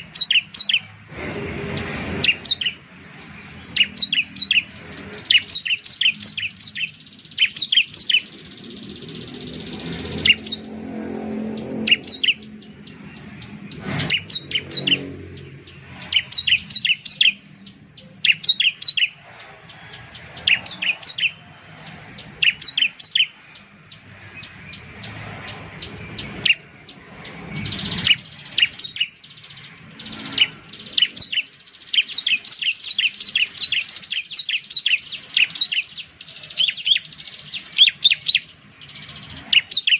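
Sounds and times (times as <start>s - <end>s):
bird singing sharp high chirps: 0.0s - 1.0s, 1.7s - 39.9s.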